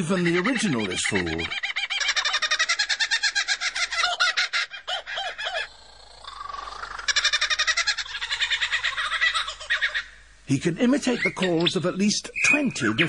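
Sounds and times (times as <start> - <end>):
kookaburra laughing call: 0.0 - 10.2, 10.9 - 11.8
lyrebird mimicking kookaburra: 0.0 - 10.2, 10.9 - 13.0.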